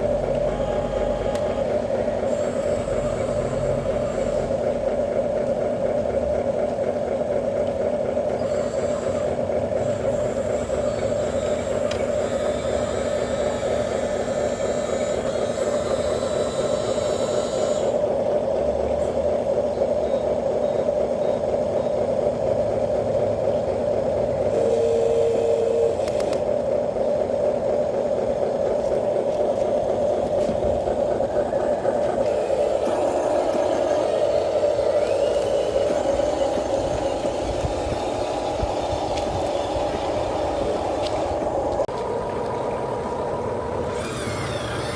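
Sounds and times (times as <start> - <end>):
remote-control truck droning: 0.0 - 6.0, 8.2 - 23.4, 28.1 - 44.9.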